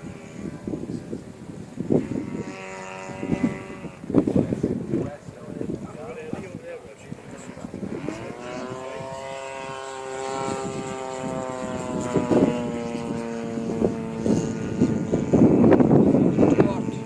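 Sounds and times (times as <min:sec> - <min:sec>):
model airplane engine and propeller: 0:00.0 - 0:17.0.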